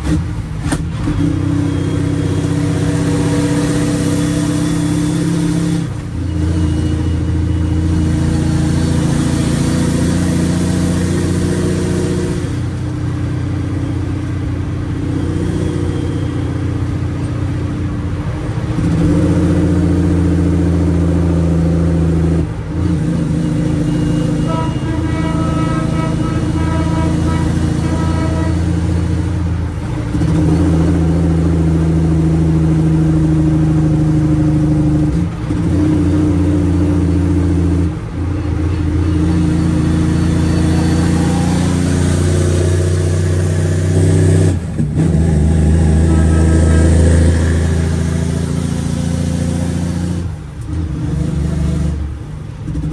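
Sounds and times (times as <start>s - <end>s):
diesel engine running under load: 0.0s - 52.9s.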